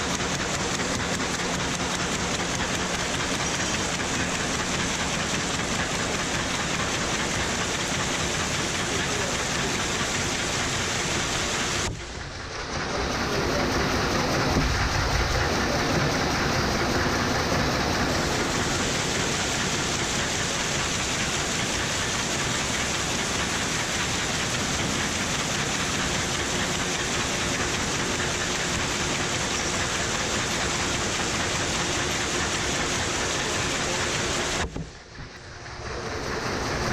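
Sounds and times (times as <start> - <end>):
machine running: 0.0 - 36.9.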